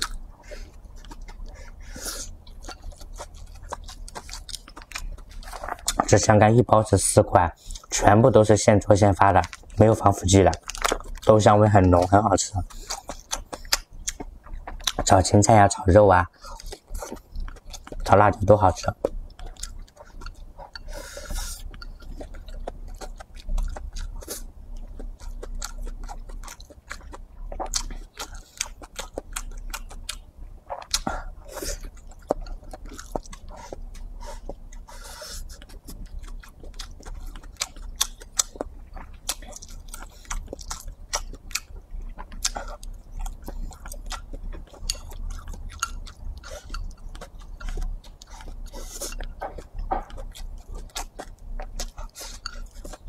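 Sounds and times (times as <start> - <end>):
person chewing food: 0.0 - 6.9, 7.5 - 53.0.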